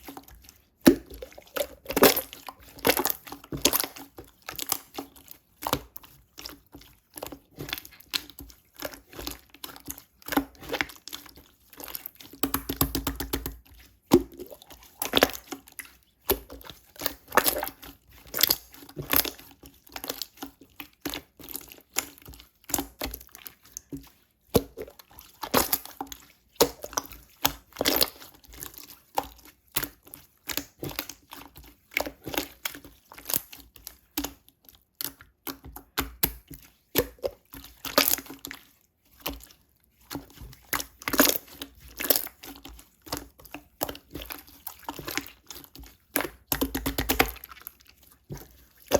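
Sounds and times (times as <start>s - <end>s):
slime squishing wet clicks: 0.0s - 48.9s.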